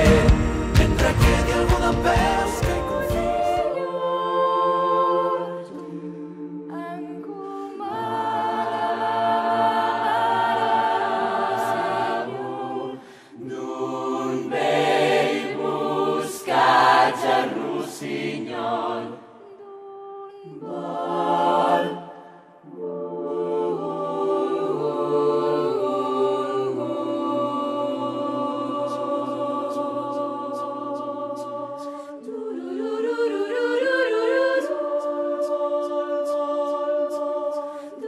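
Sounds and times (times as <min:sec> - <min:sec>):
choir singing held chords: 0:00.0 - 0:38.0.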